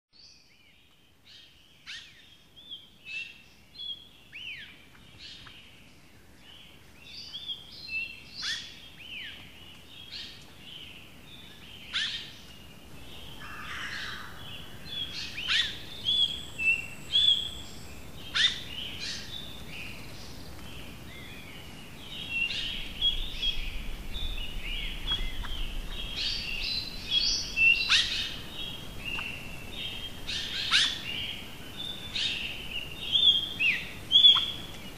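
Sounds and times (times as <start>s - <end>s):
forest birds singing and calling: 0.2s - 34.9s.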